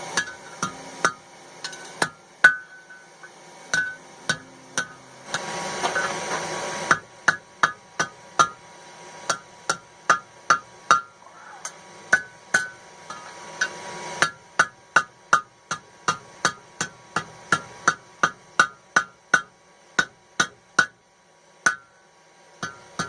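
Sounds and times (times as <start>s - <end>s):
hammer striking hot steel: 0.0s - 23.0s.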